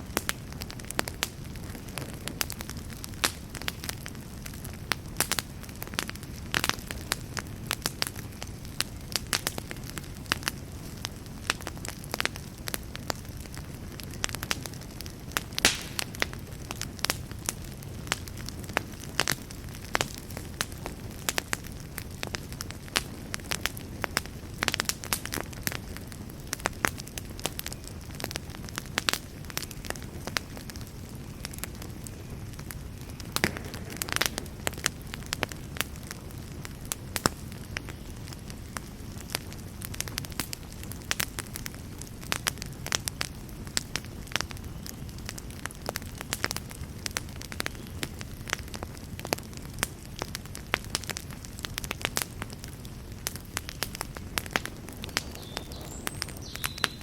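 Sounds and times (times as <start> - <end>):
wood fire burning: 0.0 - 57.0.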